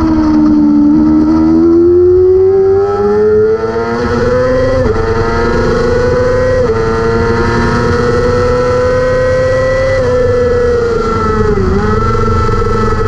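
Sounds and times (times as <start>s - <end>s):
motorcycle engine high revs: 0.0s - 13.0s.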